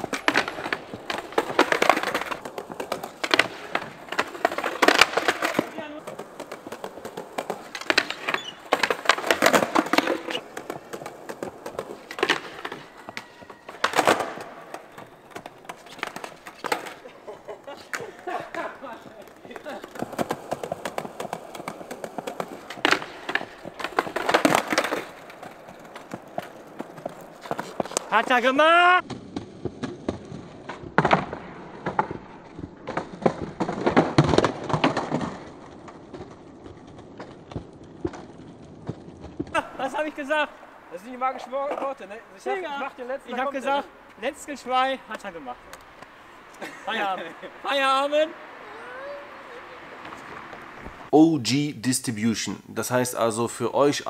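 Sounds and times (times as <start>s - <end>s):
skateboard wheels clicking over joints: 0.0s - 51.1s
skateboards knocking and slapping: 0.0s - 51.2s.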